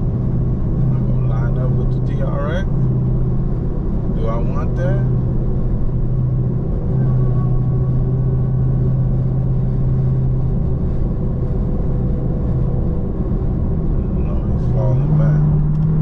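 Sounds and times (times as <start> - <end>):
car engine drone: 0.0 - 16.0
road rumble: 0.0 - 16.0.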